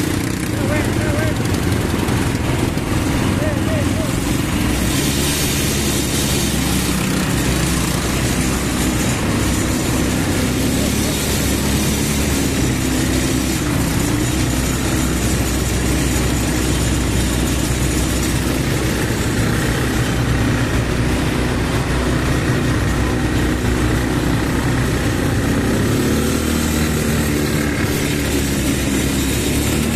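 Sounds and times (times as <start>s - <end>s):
atv engine running: 0.0s - 29.9s.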